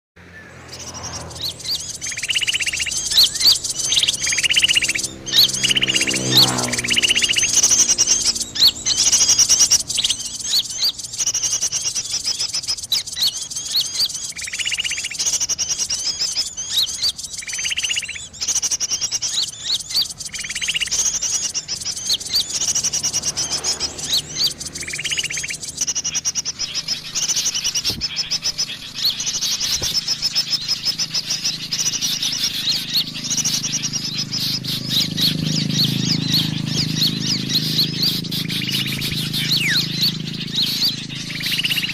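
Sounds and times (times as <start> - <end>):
bird chirping: 0.2 - 41.9
low whistled bird notes: 0.3 - 41.9.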